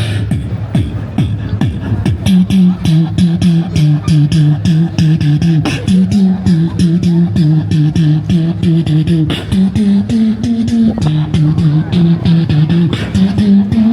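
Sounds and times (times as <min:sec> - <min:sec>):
beatboxing tongue clicks: 0:00.0 - 0:13.9
low sustained beatbox tone: 0:00.0 - 0:13.9.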